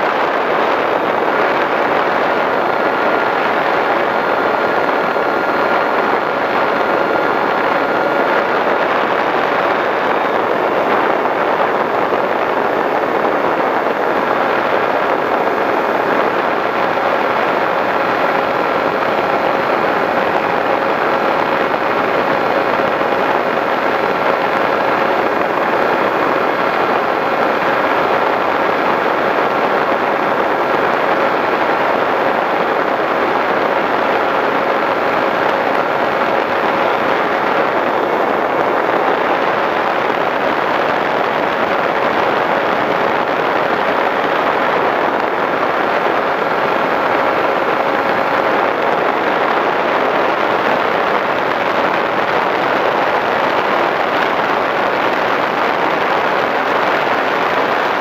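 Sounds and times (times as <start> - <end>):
rush of airflow: 0.0 - 58.0.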